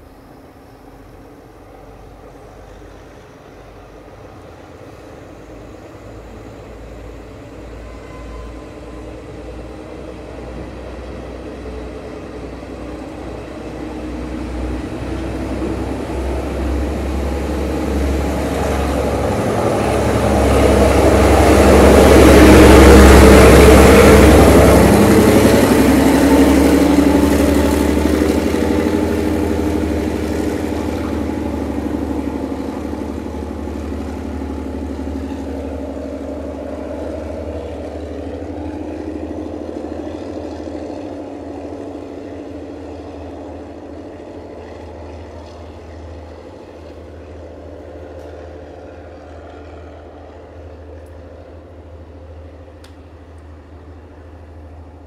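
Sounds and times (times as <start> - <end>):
diesel train engine: 0.0 - 55.0
train wheels on rails: 0.0 - 55.0.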